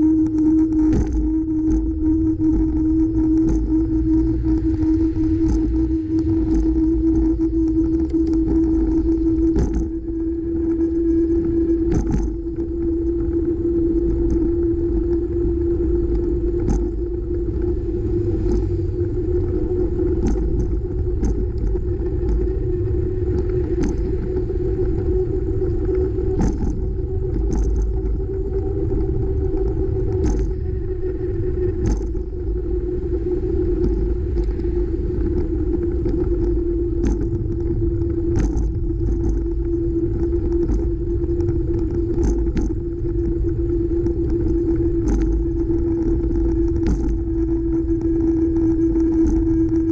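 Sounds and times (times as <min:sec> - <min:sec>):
constant hum: 0:00.0 - 0:49.9
wind on microphone: 0:00.0 - 0:49.9
bicycle clicks and rattles: 0:00.2 - 0:13.2, 0:16.1 - 0:19.1, 0:20.0 - 0:30.8, 0:31.5 - 0:32.8, 0:33.6 - 0:49.9.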